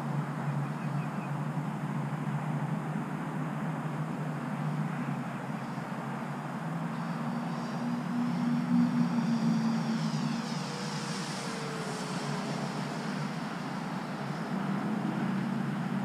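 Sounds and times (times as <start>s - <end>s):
model plane propeller whine: 0.0s - 16.0s.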